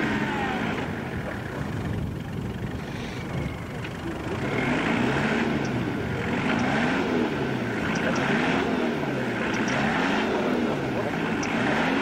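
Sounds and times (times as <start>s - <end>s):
engine revving: 0.0s - 3.2s, 3.8s - 12.0s
wheels spinning in mud: 0.0s - 12.0s.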